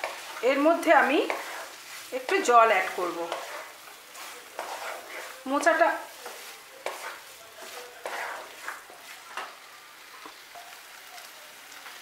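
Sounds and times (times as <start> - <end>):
spatula scraping a pan: 0.0 - 11.0
light sizzle of frying: 0.0 - 12.0.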